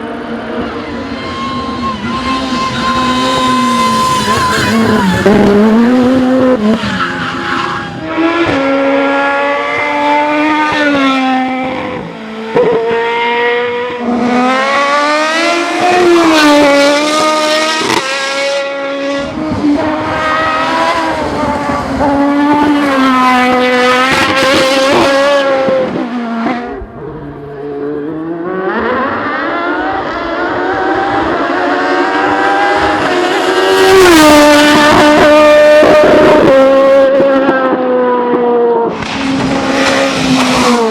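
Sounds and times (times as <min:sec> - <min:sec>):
racing car engine revving: 0:00.0 - 0:40.9.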